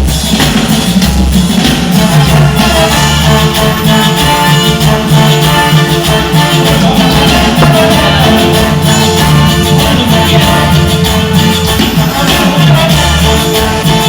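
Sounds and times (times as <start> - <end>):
live latin band music: 0.0 - 14.0.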